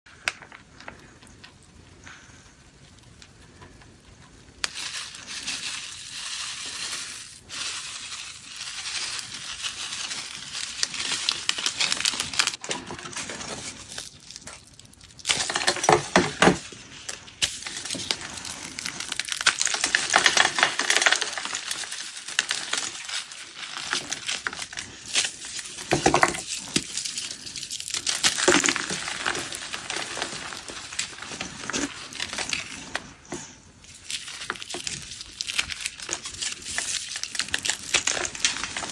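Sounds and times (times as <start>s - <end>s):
powdery crumbling: 0.1s - 38.9s.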